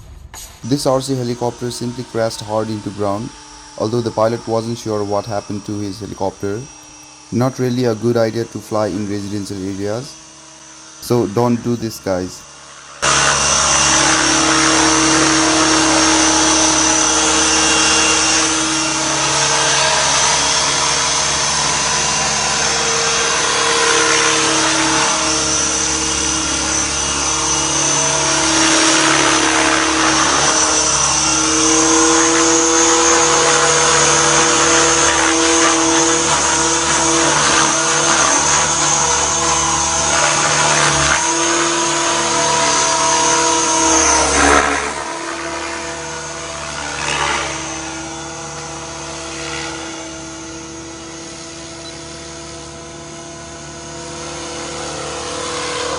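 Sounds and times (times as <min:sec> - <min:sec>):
model helicopter rotor whine: 0:00.0 - 0:55.9.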